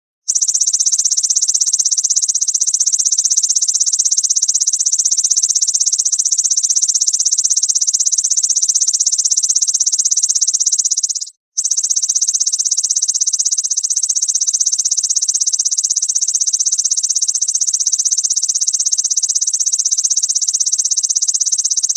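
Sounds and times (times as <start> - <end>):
grasshopper buzzing trill: 0.3 - 21.9.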